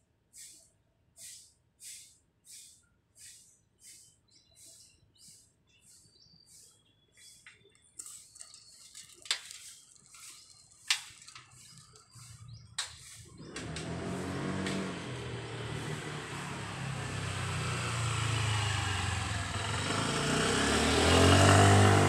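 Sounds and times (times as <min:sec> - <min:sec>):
broom sweeping ground: 0:00.0 - 0:18.4.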